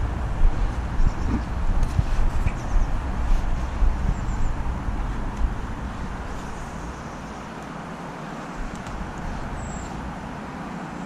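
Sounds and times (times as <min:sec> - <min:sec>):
distant road traffic hiss: 0:00.0 - 0:11.0.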